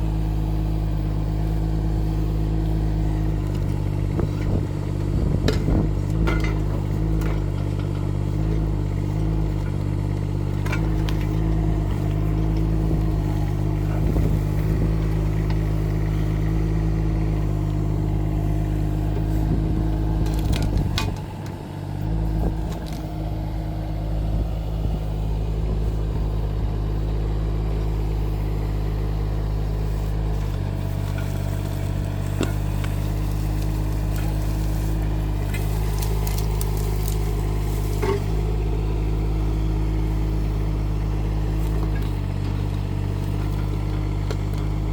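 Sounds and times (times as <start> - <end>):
mini excavator engine running: 0.0 - 44.9.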